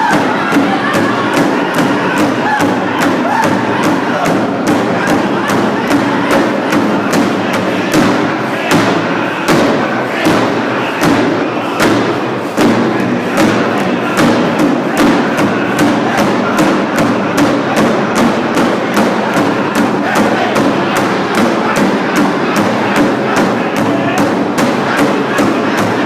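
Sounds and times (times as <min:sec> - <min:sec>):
group of people singing: 0:00.0 - 0:26.0
large drum beating: 0:00.0 - 0:26.0.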